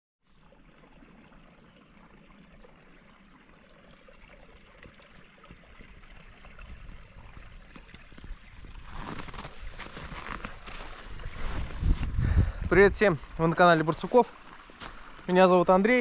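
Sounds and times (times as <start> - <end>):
creek trickling: 0.2 - 16.0.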